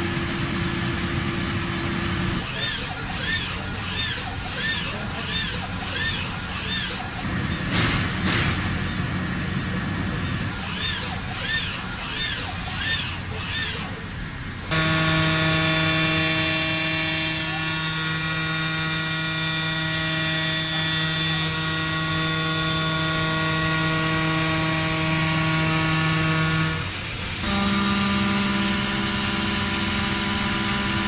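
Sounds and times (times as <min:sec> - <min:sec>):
machine humming and whining: 0:00.0 - 0:31.0.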